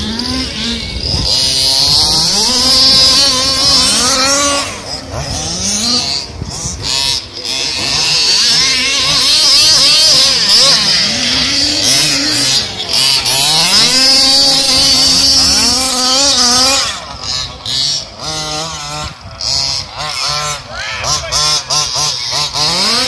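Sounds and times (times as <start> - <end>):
small two-stroke engine revving: 0.0 - 23.0.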